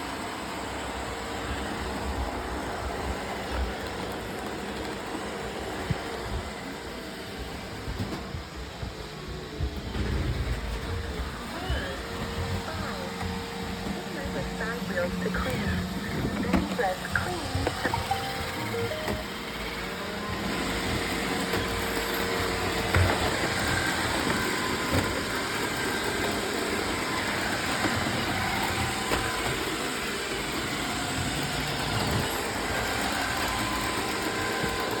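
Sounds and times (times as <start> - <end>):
robot vacuum motor hum: 0.1 - 35.0.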